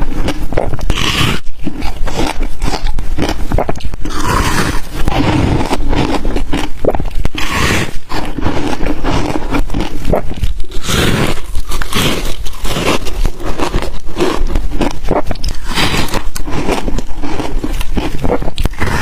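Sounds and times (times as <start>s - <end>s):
ice crunching being chewed: 0.0s - 19.0s.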